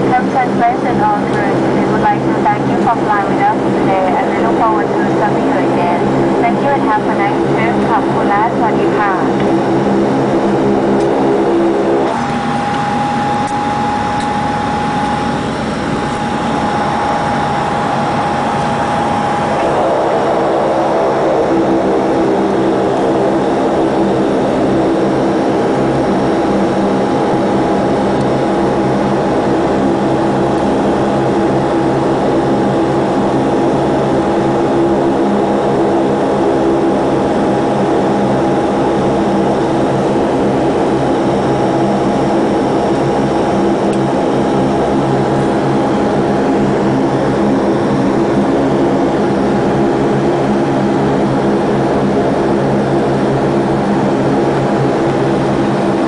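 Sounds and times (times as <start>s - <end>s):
turboprop engine drone with whine: 0.0s - 56.0s.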